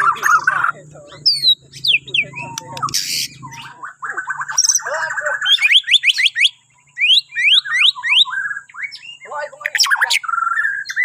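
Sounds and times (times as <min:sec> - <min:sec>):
bird chattering: 0:00.0 - 0:11.0
bird singing whistled notes: 0:00.0 - 0:11.0.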